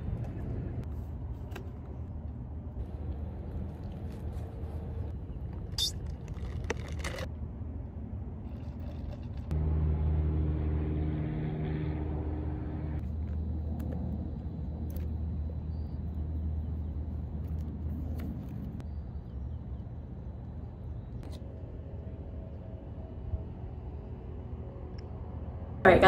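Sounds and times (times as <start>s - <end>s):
distant traffic rumble: 0.0s - 26.0s
low engine-like hum: 0.0s - 26.0s.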